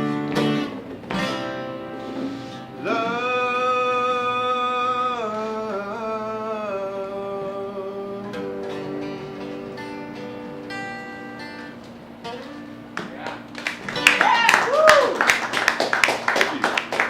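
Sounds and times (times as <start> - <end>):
acoustic guitar band music: 0.0 - 17.0.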